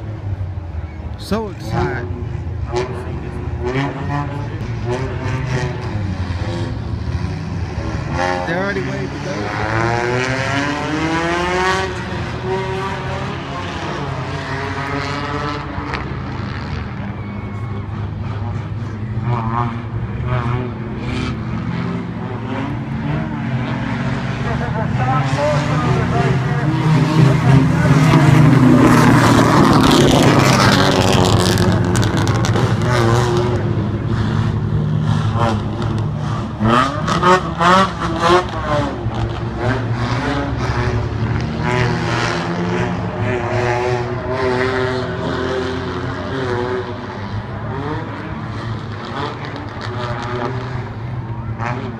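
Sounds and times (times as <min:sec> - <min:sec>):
car engine revving: 0:00.0 - 0:51.9
car engines idling: 0:00.0 - 0:51.9.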